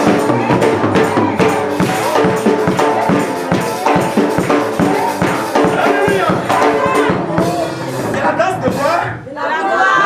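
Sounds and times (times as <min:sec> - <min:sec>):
keyboard or guitar chords: 0:00.0 - 0:08.8
percussion: 0:00.0 - 0:09.3
steady drum beat: 0:00.0 - 0:09.3.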